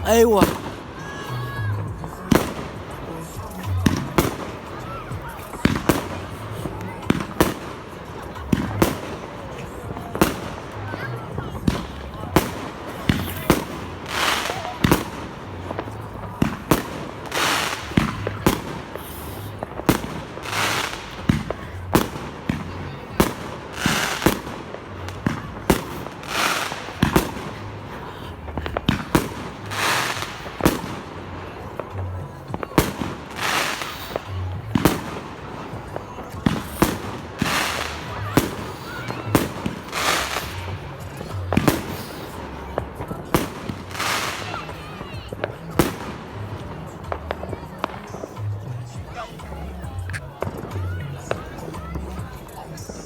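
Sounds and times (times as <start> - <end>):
firecrackers banging: 0.0 - 53.0
fireworks hissing and crackling: 0.0 - 53.0.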